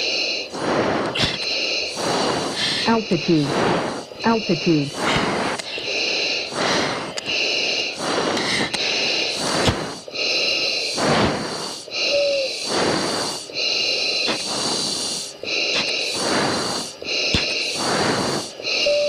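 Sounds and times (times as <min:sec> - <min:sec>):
heavy breathing through oxygen mask: 0:00.0 - 0:19.0
steady cockpit hiss: 0:00.0 - 0:19.0.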